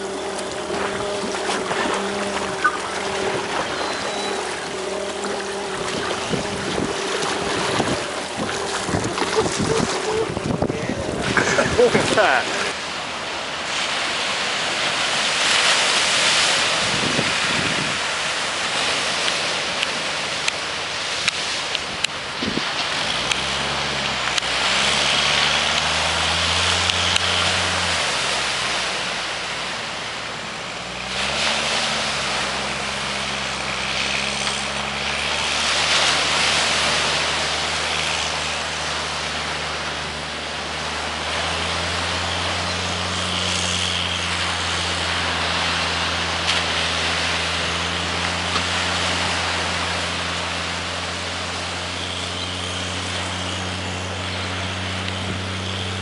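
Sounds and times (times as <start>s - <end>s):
surf breaking: 0.0s - 56.0s
tractor engine under load: 0.0s - 56.0s
wind: 0.0s - 56.0s.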